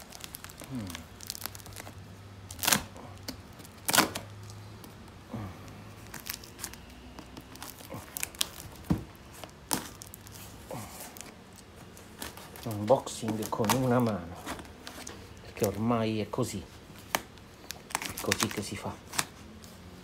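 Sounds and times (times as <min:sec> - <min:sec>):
paper wrapping crinkling: 0:00.0 - 0:04.6, 0:05.6 - 0:19.4.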